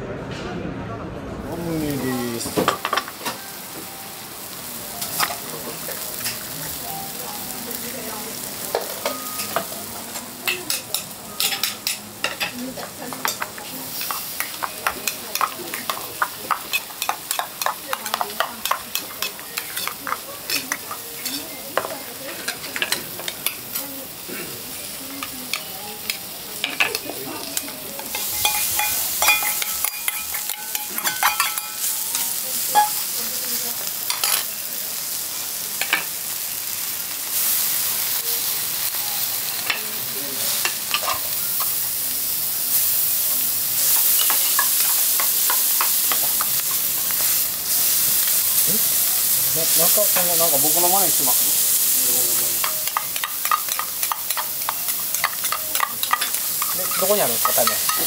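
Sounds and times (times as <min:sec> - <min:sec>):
food sizzling on griddle: 0:01.5 - 0:58.0.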